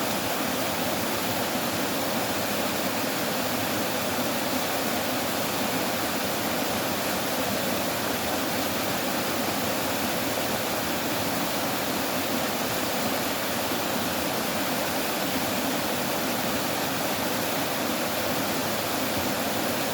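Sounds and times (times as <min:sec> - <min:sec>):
running water rushing: 0:00.0 - 0:19.9.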